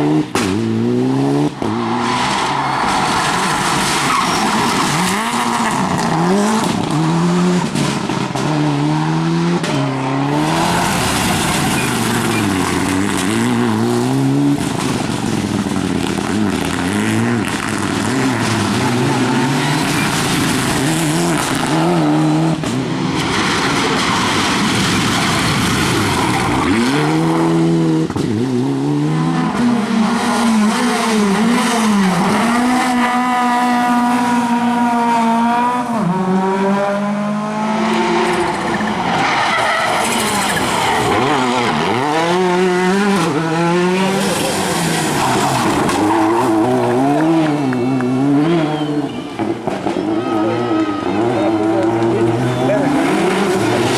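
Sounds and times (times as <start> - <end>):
rally car engines revving: 0.0 - 53.9
tyres skidding: 0.0 - 53.9.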